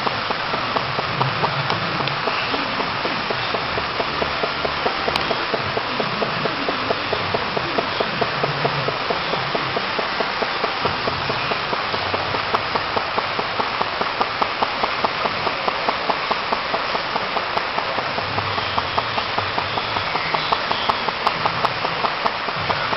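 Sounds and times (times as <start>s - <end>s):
constant hiss: 0.0s - 22.9s
small engine clicking rhythmically: 0.0s - 22.9s.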